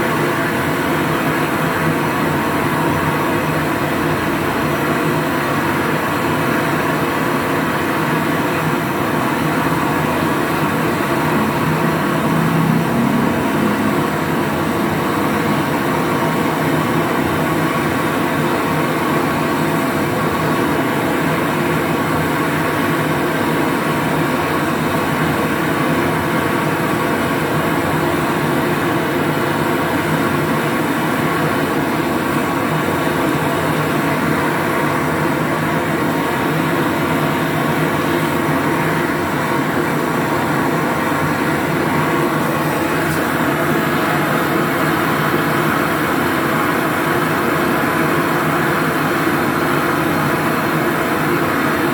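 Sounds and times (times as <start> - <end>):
machine running with hum: 0.0 - 51.9.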